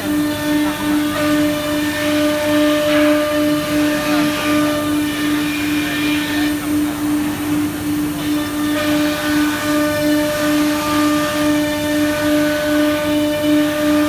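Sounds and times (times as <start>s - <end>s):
cnc router spindle whine: 0.0s - 14.0s.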